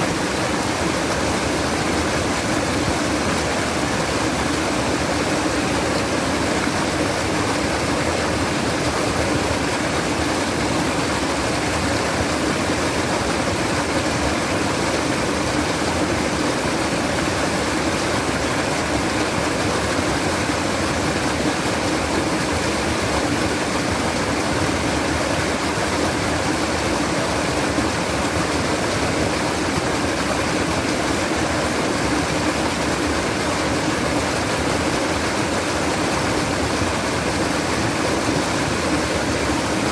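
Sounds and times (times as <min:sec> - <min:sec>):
water babbling: 0:00.0 - 0:39.9.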